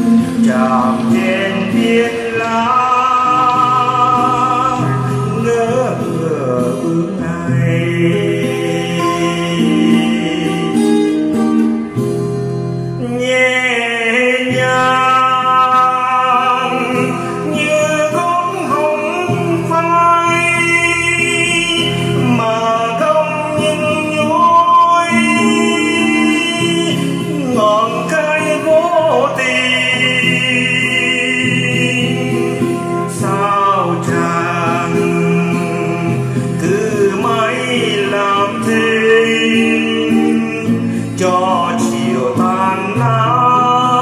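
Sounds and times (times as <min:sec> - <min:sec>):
acoustic guitar: 0:00.0 - 0:44.0
person singing: 0:00.0 - 0:44.0.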